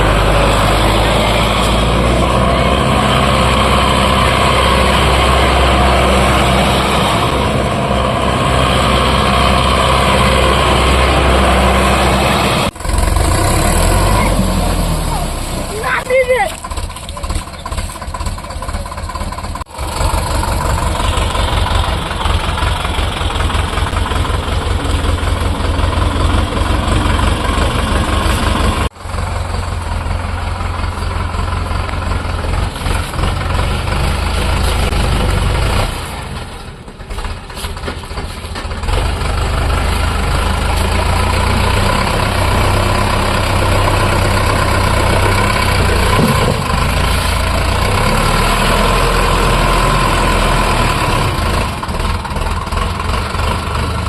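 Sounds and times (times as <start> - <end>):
tractor diesel engine chugging: 0.0 - 54.0.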